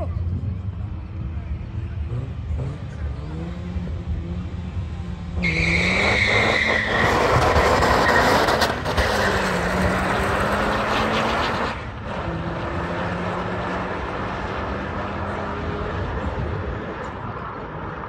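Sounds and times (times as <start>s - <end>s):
drag racing car engine accelerating: 1.9s - 18.0s.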